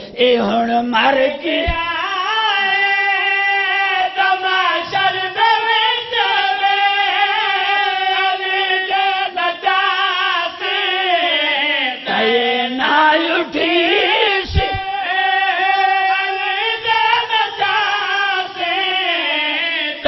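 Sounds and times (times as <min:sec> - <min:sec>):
man chanting over microphone: 0:00.0 - 0:20.0.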